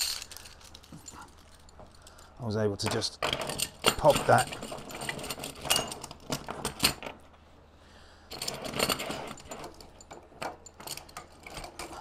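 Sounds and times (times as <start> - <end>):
metal track links clinking: 0.0 - 7.2, 8.3 - 12.0.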